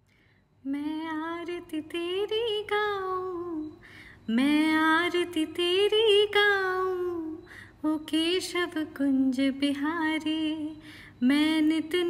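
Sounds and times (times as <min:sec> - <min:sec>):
woman singing unaccompanied: 0:00.6 - 0:12.0.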